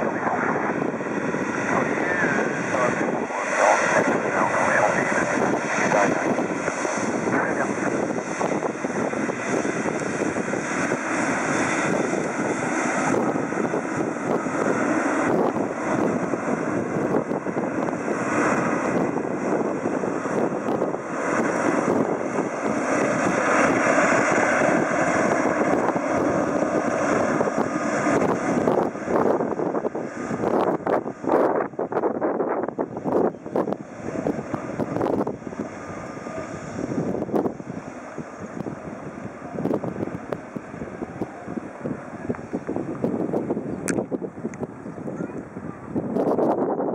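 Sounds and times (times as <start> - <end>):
jet engine roar: 0.0 - 46.9.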